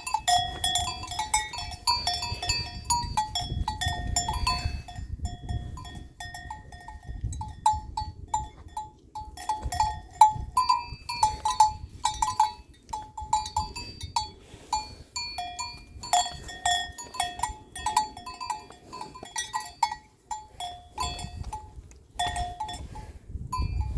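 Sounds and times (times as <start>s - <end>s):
animal bells clanking: 0.0s - 23.9s.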